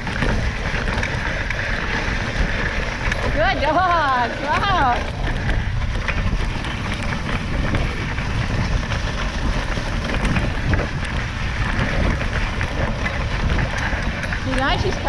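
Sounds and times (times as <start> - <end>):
faint ticks and knocks from sled: 0.0 - 15.0
sled runners gliding over snow: 0.0 - 15.0
wind rumbling on microphone: 0.0 - 15.0.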